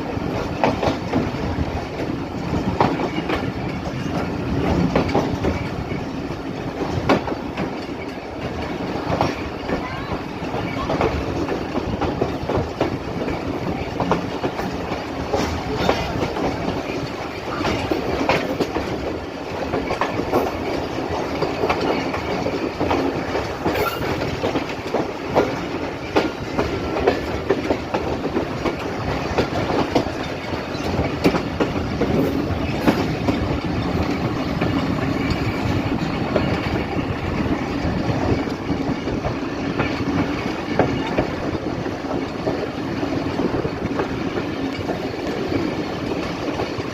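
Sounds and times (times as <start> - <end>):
train rumble: 0.0 - 46.9
wheels clicking over rail joints: 0.0 - 46.9.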